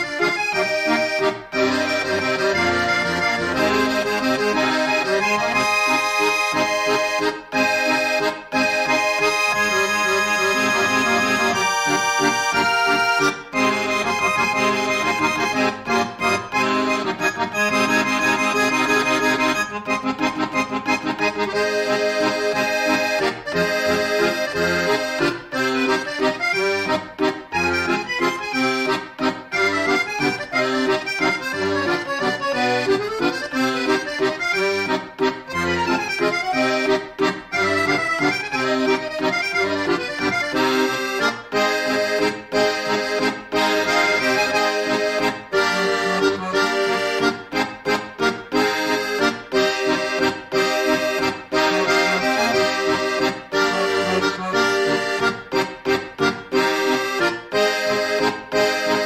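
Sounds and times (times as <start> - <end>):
accordion folk music: 0.0 - 59.0.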